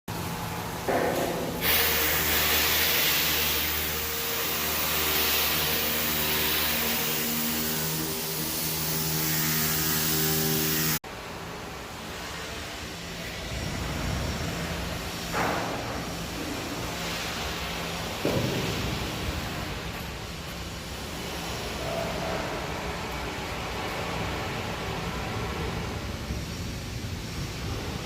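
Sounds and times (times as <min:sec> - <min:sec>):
welding arc sizzling: 0:00.1 - 0:28.0.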